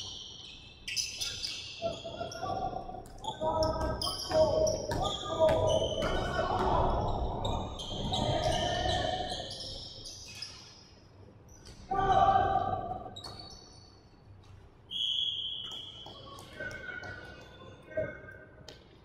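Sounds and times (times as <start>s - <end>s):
sneakers squeaking: 0.0s - 17.4s.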